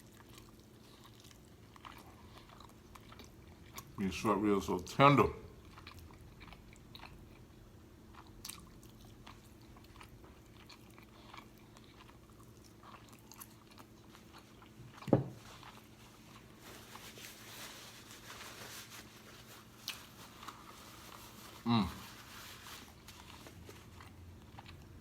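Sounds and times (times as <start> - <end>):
person chewing: 0.0 - 4.0, 5.5 - 17.4, 19.6 - 25.0.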